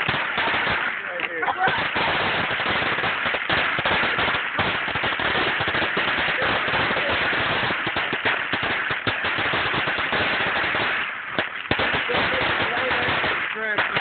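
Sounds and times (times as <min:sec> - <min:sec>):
firecrackers banging: 0:00.0 - 0:14.0.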